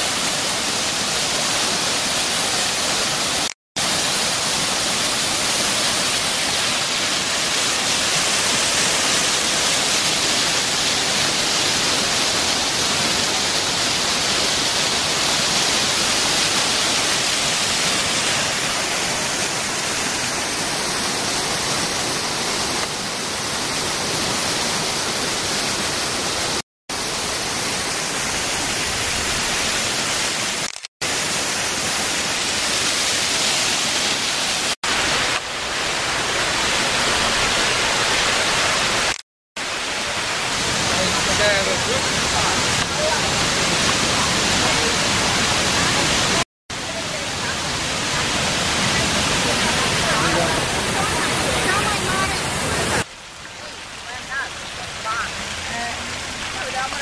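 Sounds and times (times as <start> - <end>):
fountain water rushing and splashing: 0.0 - 57.0.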